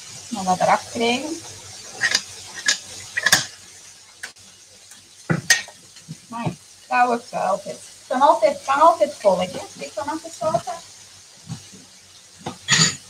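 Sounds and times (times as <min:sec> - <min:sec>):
light sizzle of frying: 0:00.0 - 0:13.0.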